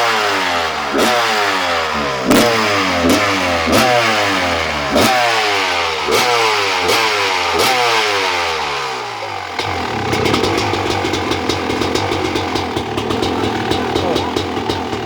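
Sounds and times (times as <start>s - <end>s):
motocross engine throttle blips: 0.0s - 15.0s.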